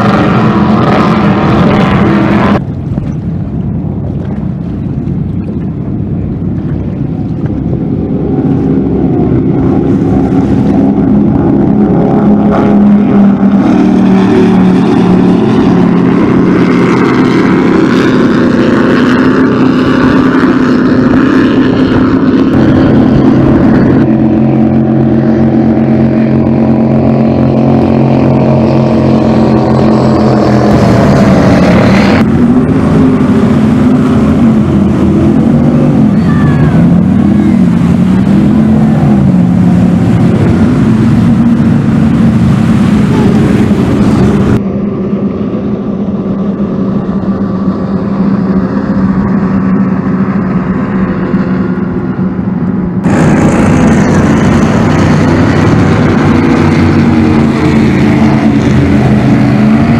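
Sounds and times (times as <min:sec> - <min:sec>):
outboard motors running: 0:00.0 - 0:59.9
powerboat engines at full throttle: 0:00.0 - 0:59.9.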